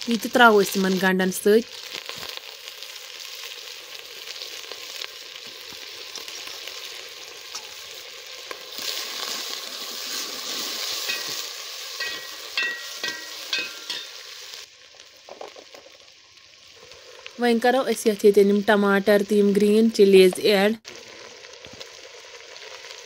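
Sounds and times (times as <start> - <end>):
meat and onions sizzling in oil: 0.0 - 23.0.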